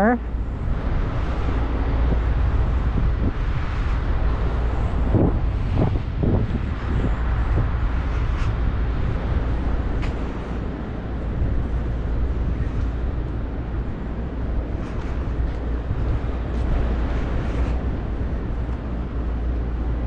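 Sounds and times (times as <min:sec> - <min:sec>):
traffic rumble and city hum: 0:00.0 - 0:20.0.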